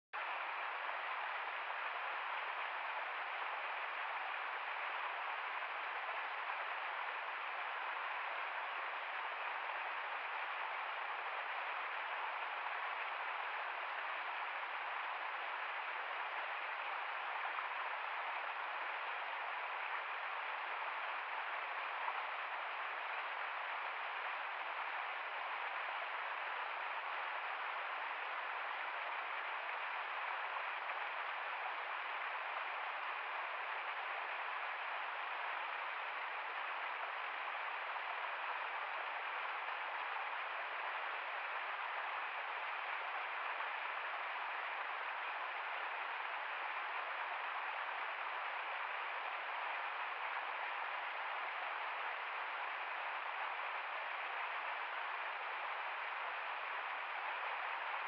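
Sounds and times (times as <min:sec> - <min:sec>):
stream pouring over rocks: 0:00.2 - 0:58.0.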